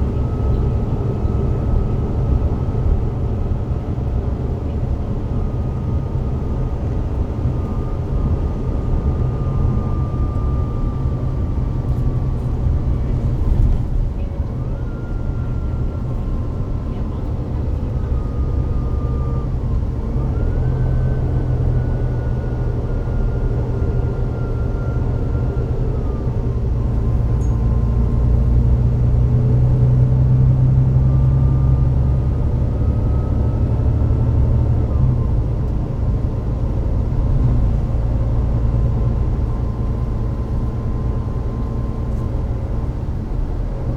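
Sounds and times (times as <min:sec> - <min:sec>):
bus diesel engine rumbling: 0:00.0 - 0:43.9.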